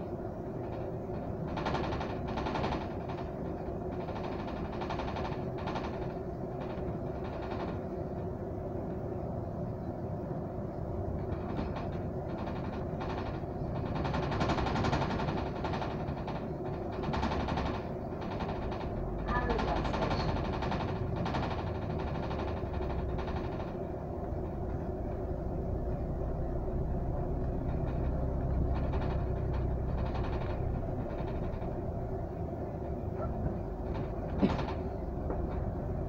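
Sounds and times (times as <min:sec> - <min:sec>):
bus engine and road rumble: 0:00.0 - 0:36.0
bodywork rattles and knocks: 0:00.2 - 0:08.6, 0:10.5 - 0:36.0.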